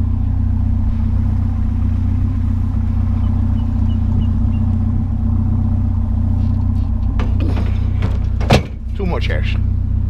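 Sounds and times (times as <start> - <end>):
vehicle engine drone inside cab: 0.0 - 10.0.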